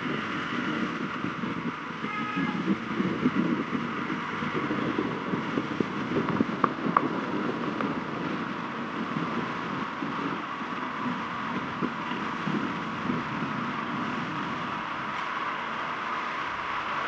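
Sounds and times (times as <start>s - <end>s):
vehicle running noise: 0.0s - 17.0s
wind on microphone: 0.0s - 17.0s.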